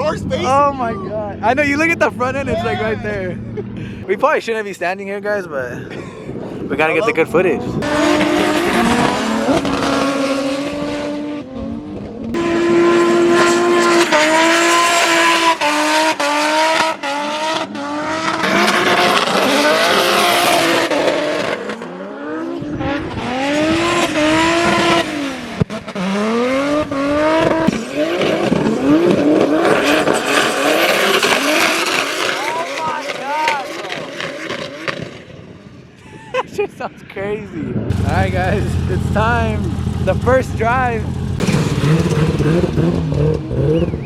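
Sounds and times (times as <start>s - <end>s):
car engine revving: 0.0s - 4.0s, 6.7s - 35.9s, 37.6s - 44.0s.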